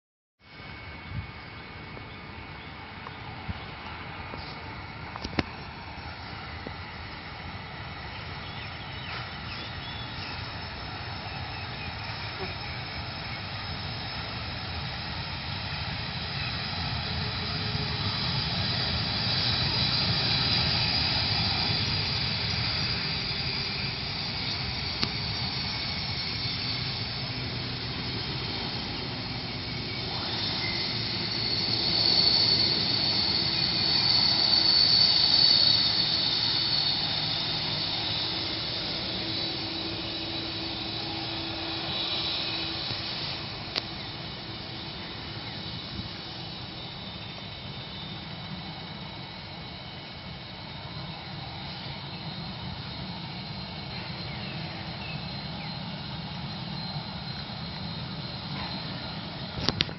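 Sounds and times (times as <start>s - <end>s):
jet engines whining and rumbling: 0.4s - 59.9s.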